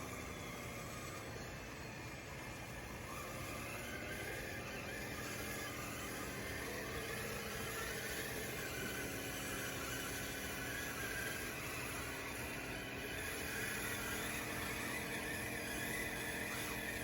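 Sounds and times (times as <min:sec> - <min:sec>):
toy bulldozer motor whine: 0:00.0 - 0:17.0.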